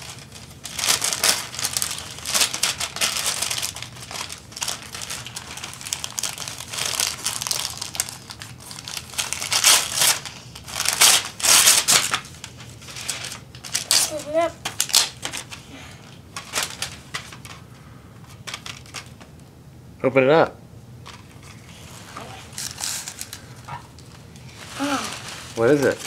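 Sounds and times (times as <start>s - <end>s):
wrapping paper tearing and crumpling: 0.0s - 15.7s, 16.4s - 17.6s, 18.3s - 19.2s, 21.1s - 26.0s.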